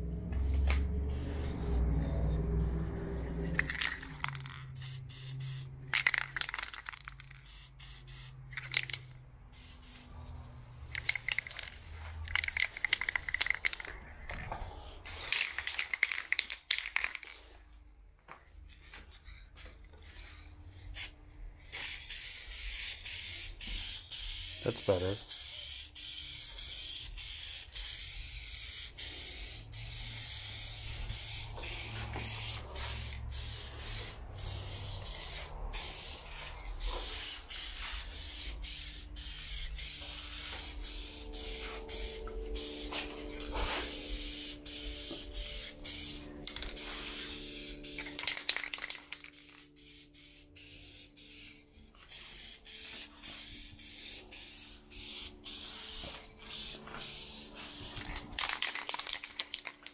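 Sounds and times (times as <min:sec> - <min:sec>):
aerosol can spraying: 0:00.5 - 0:09.0, 0:09.6 - 0:14.0, 0:21.0 - 0:59.9.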